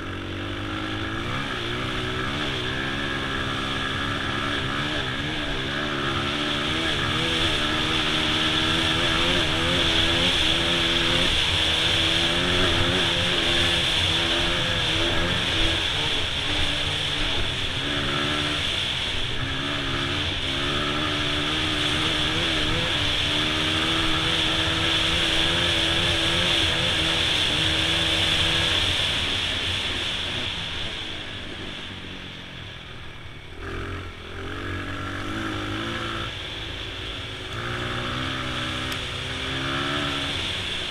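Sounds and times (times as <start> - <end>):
dirt bike engine revving: 0.0 - 32.0, 33.5 - 40.9.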